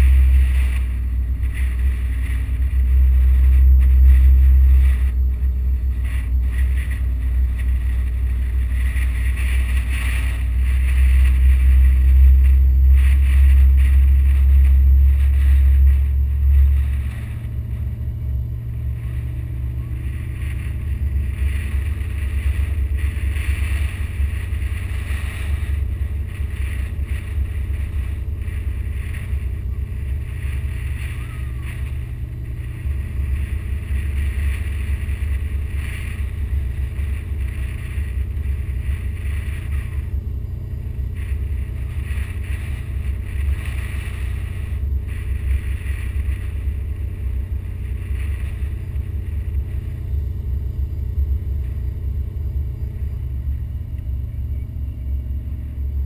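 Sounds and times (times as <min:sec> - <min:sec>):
wind buffeting microphone: 0:00.0 - 0:54.0
car engine running low: 0:00.0 - 0:56.0.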